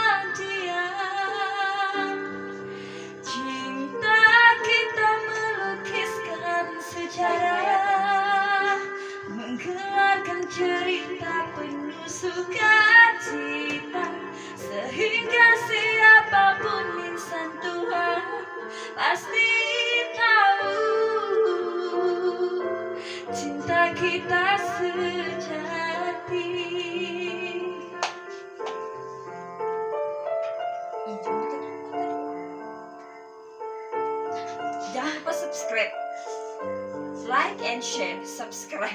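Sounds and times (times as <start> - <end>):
woman singing slow song: 0.0 - 28.6, 34.4 - 36.0, 36.9 - 38.9
sustained piano keyboard: 0.0 - 38.9.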